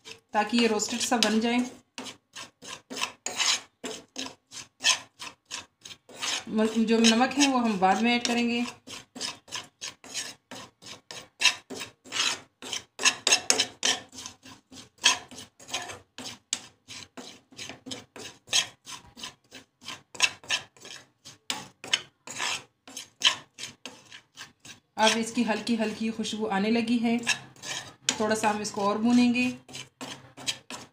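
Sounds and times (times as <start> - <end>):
metal spoon scraping spices in pan: 0.0 - 30.9.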